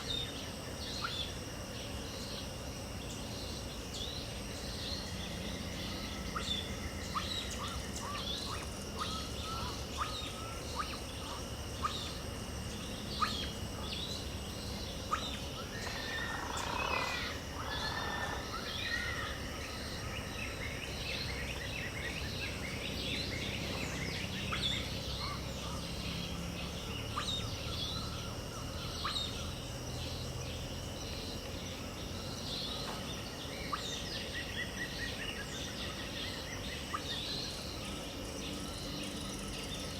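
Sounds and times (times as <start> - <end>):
birds chirping: 0.0 - 39.9
high insect drone: 0.0 - 39.9.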